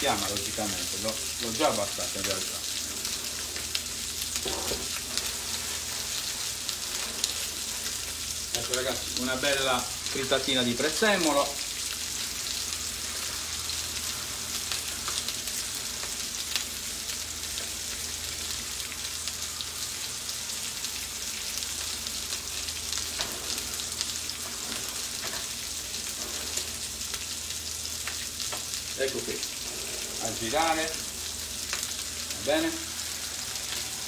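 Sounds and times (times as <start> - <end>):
fish sizzling in hot oil: 0.0 - 34.0.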